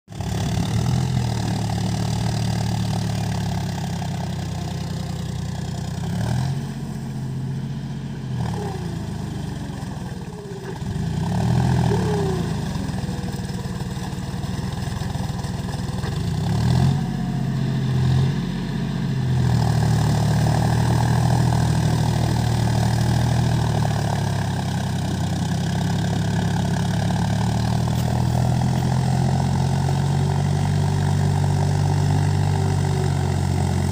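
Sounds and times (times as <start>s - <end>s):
tractor diesel engine idling and revving: 0.1s - 33.9s.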